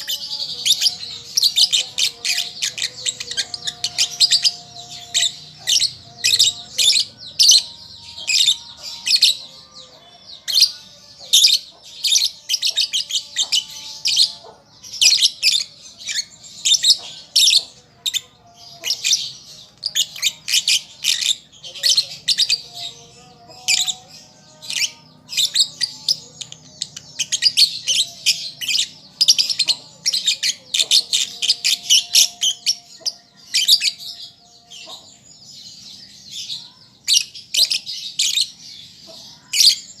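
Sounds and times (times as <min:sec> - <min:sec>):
lovebird chirping: 0:00.0 - 0:40.0.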